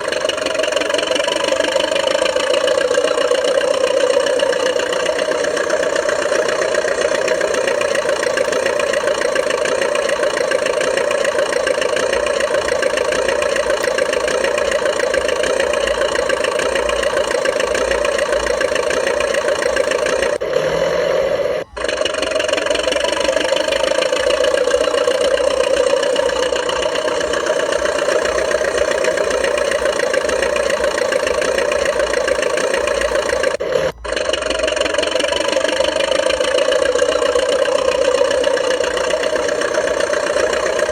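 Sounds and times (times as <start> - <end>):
model bulldozer mechanical drone: 0.0 - 40.9.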